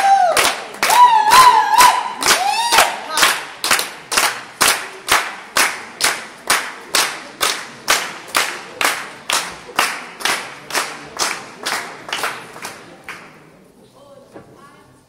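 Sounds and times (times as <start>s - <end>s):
rhythmic clapping in unison: 0.0s - 13.5s.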